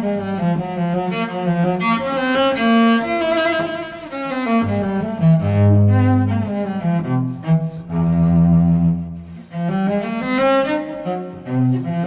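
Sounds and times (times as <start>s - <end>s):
classical bowed string music: 0.0s - 12.0s.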